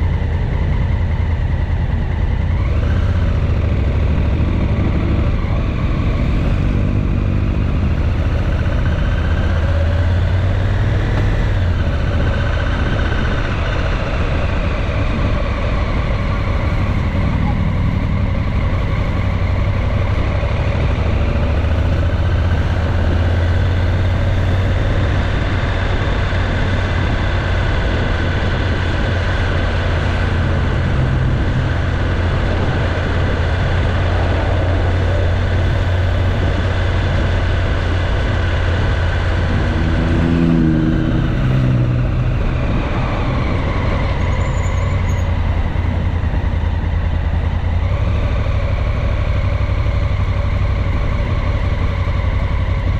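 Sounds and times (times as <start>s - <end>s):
motorcycle engine running: 0.0s - 52.9s
road noise: 0.0s - 52.9s.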